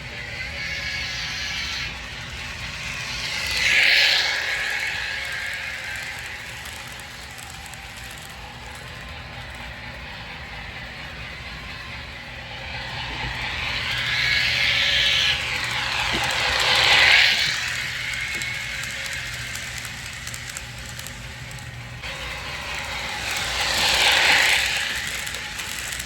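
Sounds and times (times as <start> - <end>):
model train motor and wheels whirring: 0.0 - 26.0.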